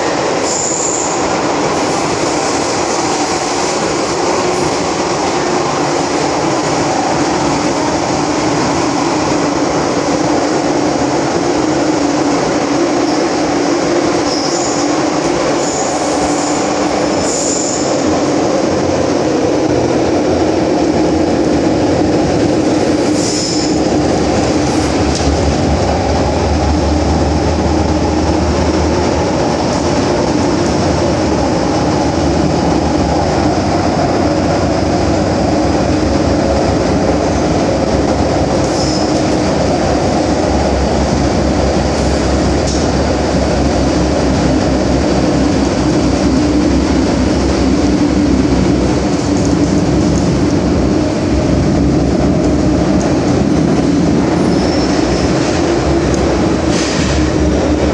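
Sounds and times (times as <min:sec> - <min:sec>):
rumble of wheels on rail: 0:00.0 - 0:57.9.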